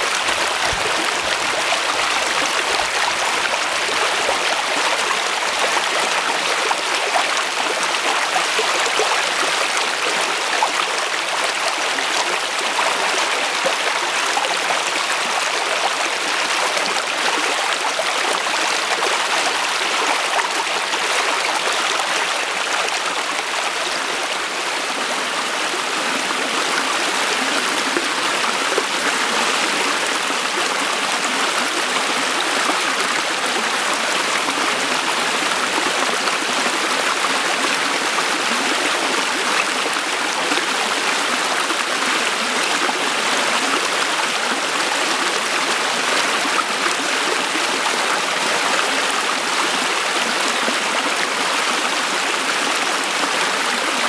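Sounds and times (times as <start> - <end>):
stream water rushing and splashing: 0.0 - 54.0.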